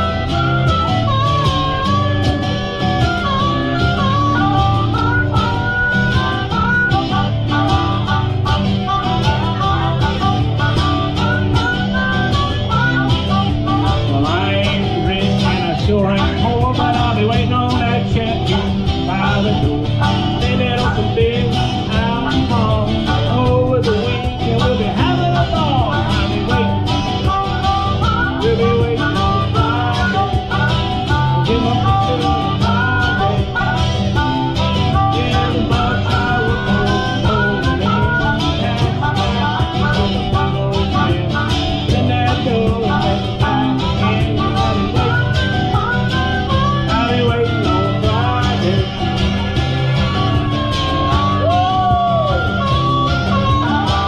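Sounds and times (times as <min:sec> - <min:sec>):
acoustic guitar strumming: 0:00.0 - 0:54.0
box drum beat: 0:00.0 - 0:54.0
keyboard: 0:00.0 - 0:54.0.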